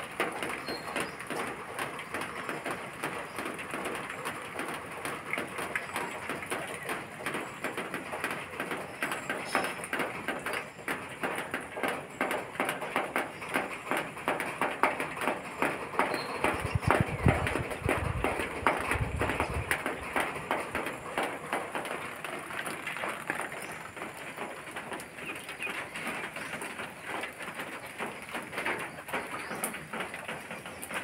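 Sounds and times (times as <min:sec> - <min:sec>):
dense crackling noise: 0:00.0 - 0:31.0.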